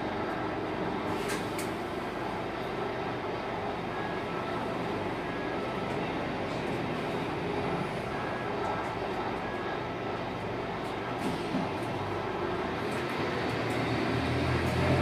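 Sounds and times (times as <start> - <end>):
bus diesel engine: 0.0 - 15.0.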